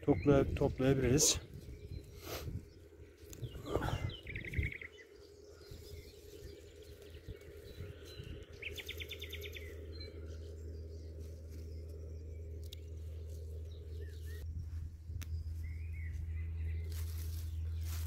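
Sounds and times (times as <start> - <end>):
low rumble: 0.0 - 18.0
grass rustling: 0.8 - 18.0.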